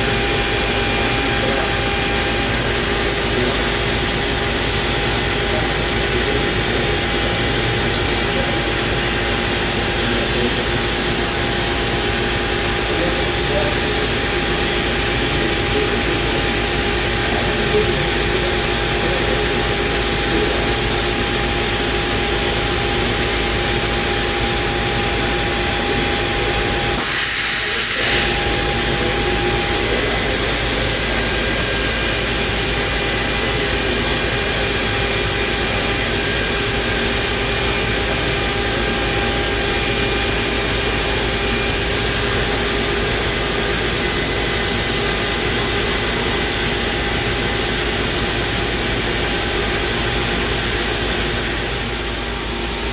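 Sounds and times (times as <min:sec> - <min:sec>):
cnc router running: 0:00.0 - 0:52.9.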